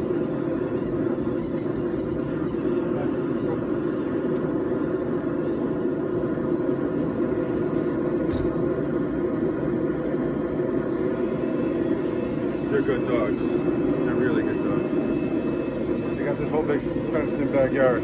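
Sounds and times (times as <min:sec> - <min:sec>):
forge droning: 0:00.0 - 0:18.0.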